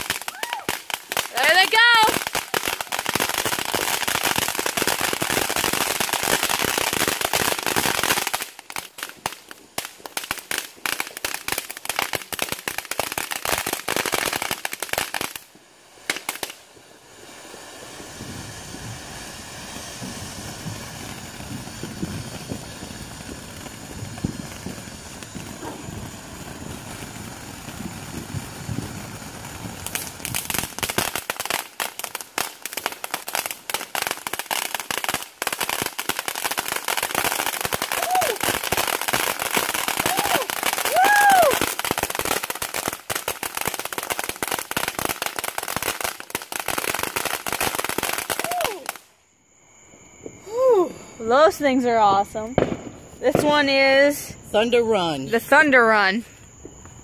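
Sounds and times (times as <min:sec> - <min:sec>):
fireworks crackling: 0:00.0 - 0:57.0
fireworks hissing: 0:00.0 - 0:57.0.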